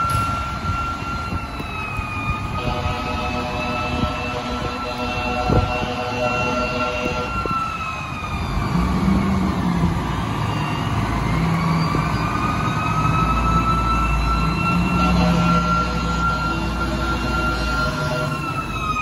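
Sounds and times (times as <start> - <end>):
diesel engine running low: 0.0 - 19.0
fire truck siren wailing: 0.0 - 19.0.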